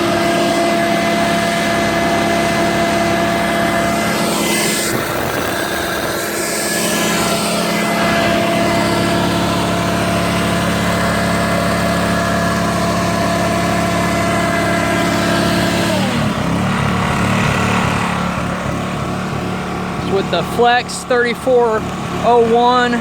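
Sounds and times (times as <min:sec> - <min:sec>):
generator engine hum: 0:00.0 - 0:23.0
vacuum motor whine: 0:00.0 - 0:23.0.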